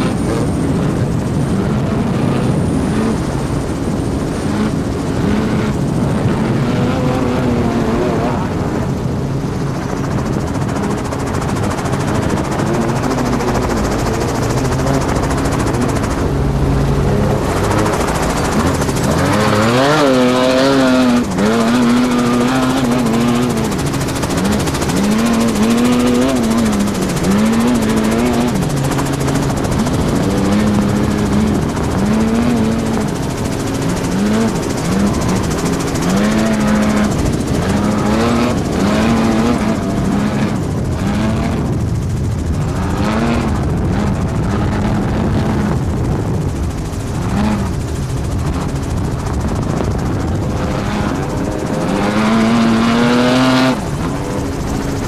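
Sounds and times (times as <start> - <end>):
helicopter rotor and engine: 0.0 - 55.0
race truck engine revving: 0.0 - 55.0.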